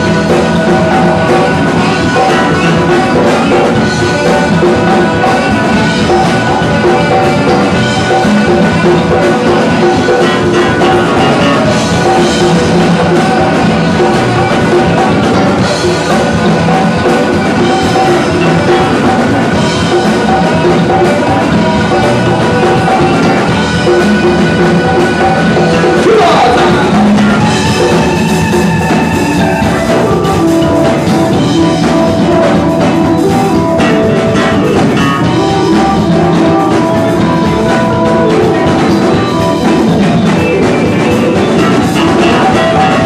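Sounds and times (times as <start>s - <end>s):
congas: 0.0s - 43.0s
drum kit: 0.0s - 43.0s
electric guitars: 0.0s - 43.0s
saxophone: 0.0s - 43.0s.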